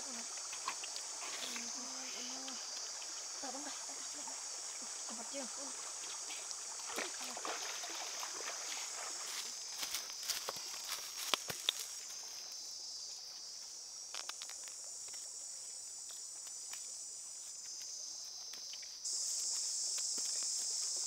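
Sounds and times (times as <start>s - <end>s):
chorus of jungle insects: 0.0s - 21.0s.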